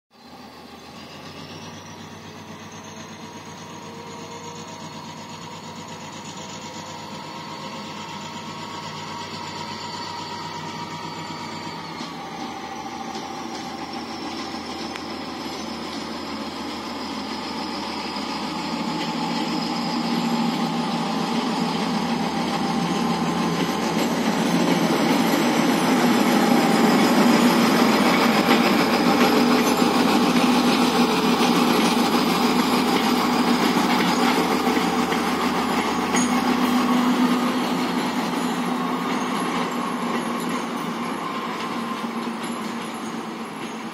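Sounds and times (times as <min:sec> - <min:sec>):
diesel locomotives passing: 0:00.2 - 0:43.9.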